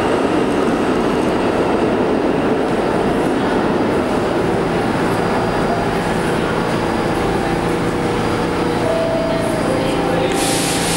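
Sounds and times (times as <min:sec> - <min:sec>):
subway train rumbling on track: 0:00.0 - 0:10.9.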